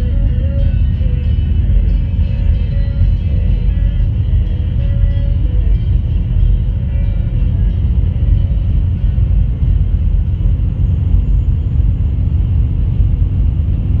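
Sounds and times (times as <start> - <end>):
road noise: 0.0 - 14.0
truck diesel engine drone: 0.0 - 14.0.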